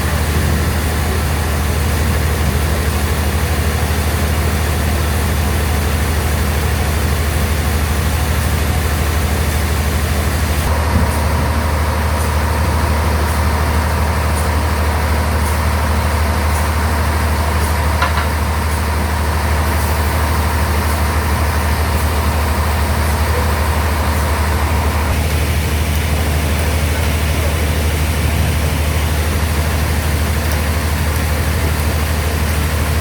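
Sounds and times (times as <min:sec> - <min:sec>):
bandsaw running with deep hum: 0:00.0 - 0:33.0
thin steady whine: 0:00.0 - 0:33.0.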